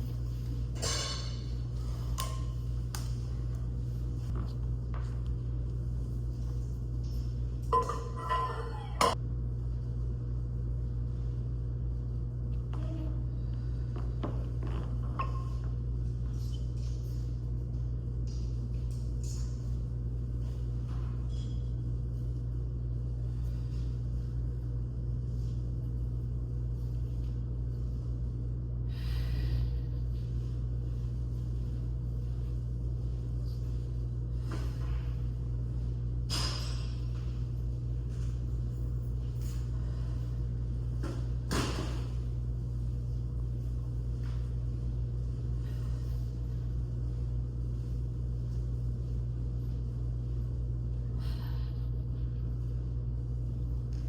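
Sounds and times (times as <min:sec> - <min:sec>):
steady low-pitched hum: 0:00.0 - 0:54.0.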